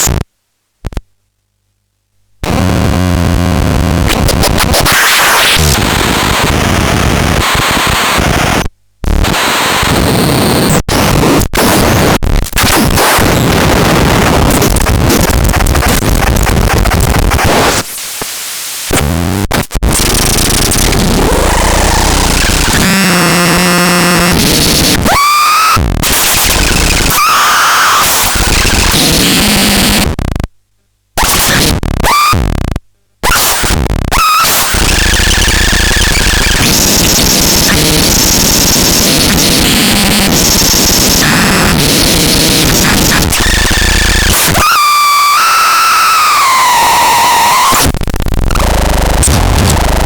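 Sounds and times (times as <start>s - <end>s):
distorted electronic static: 0.0s - 0.2s, 2.4s - 30.5s, 31.2s - 50.0s.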